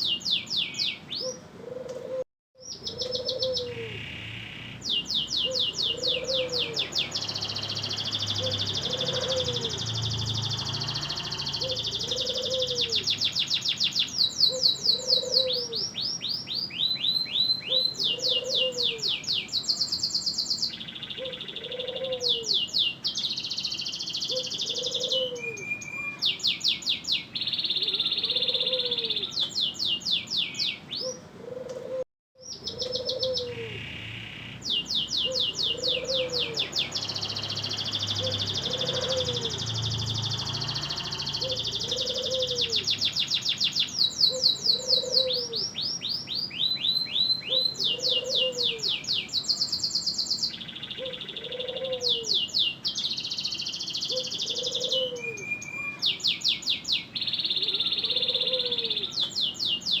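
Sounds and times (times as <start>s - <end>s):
canary singing trills: 0.0s - 1.5s, 2.6s - 31.3s, 32.4s - 60.0s.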